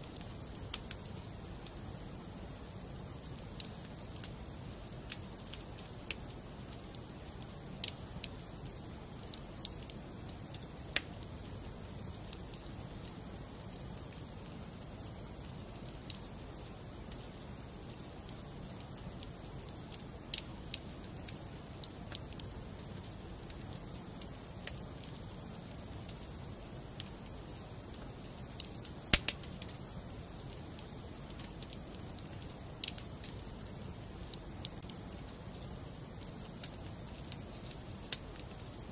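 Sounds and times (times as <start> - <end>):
low rush of fire: 0.0 - 38.9
wood fire crackling and popping: 0.0 - 38.9.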